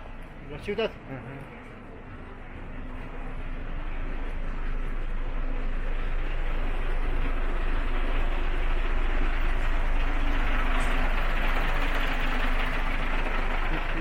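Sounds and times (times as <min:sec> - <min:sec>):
vehicle engine and road noise: 0:01.2 - 0:14.0.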